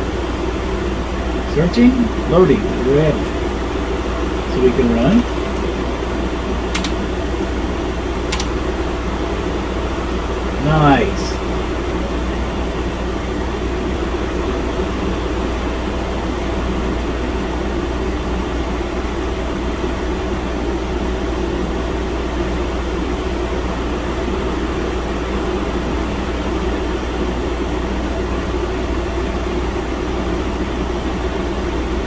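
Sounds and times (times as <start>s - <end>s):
computer fans whirring: 0.0s - 32.0s.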